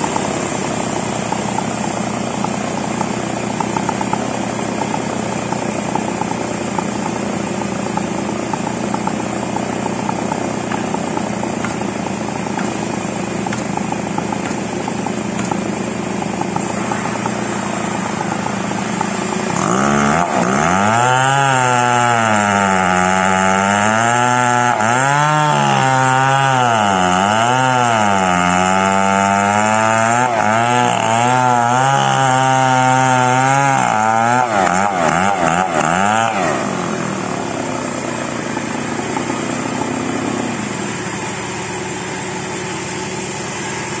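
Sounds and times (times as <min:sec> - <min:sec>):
chainsaw cutting log: 0:00.0 - 0:44.0.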